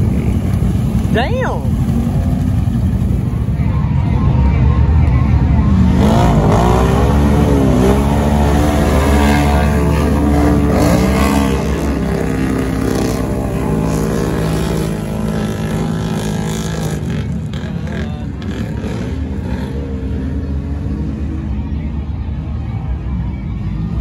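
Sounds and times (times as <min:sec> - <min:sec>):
atv engines revving: 0:00.0 - 0:24.0.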